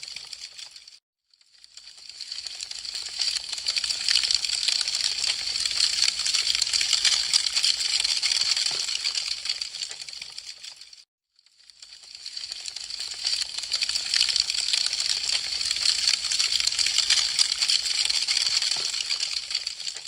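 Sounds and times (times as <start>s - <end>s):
wood fire crackling: 1.8s - 11.0s, 11.7s - 20.0s.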